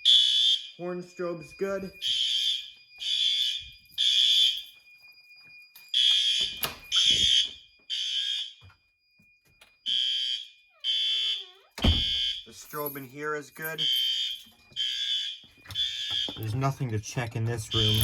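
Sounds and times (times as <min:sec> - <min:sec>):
fire alarm horn blasts: 0:00.0 - 0:09.0, 0:09.7 - 0:12.9, 0:13.7 - 0:17.0, 0:17.6 - 0:18.0.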